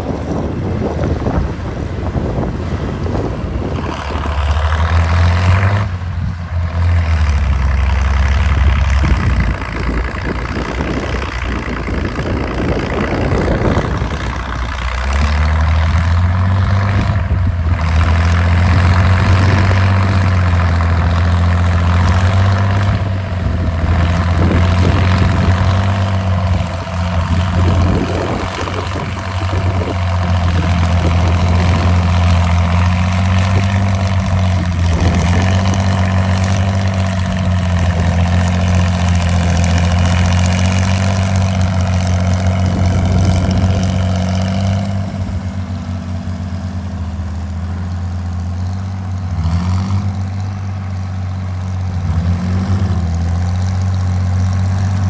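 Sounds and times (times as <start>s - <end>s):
tractor engine running under load: 0.0s - 55.0s.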